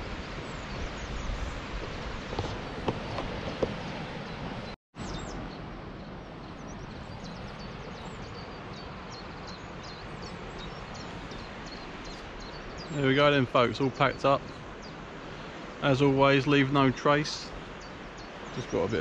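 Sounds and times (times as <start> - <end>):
songbird chirping: 0.4 - 19.0
outdoor background hiss: 2.4 - 19.0.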